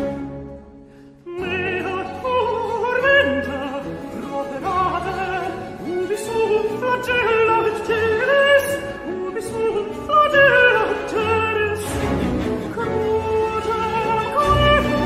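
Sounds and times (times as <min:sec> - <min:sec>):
orchestral accompaniment: 0:00.0 - 0:15.0
countertenor singing with vibrato: 0:01.2 - 0:15.0.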